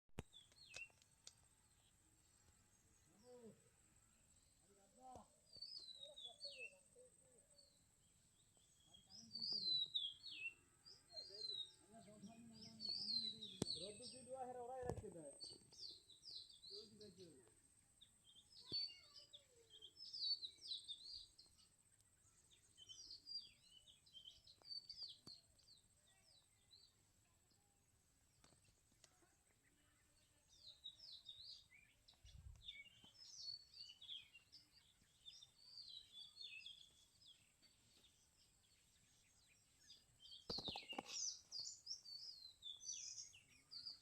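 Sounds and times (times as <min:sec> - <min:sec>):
small birds chirping: 0:00.2 - 0:44.0.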